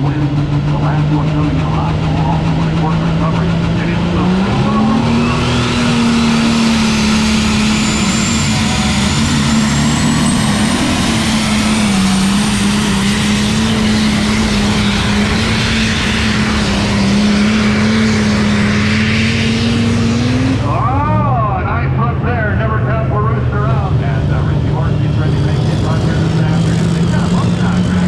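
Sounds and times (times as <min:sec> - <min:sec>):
tractor engine under heavy load: 0:00.0 - 0:28.0.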